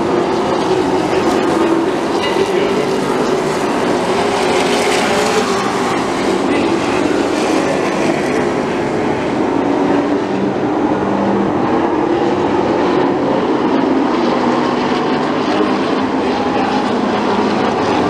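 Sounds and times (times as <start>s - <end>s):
stock car engines racing: 0.0s - 18.0s.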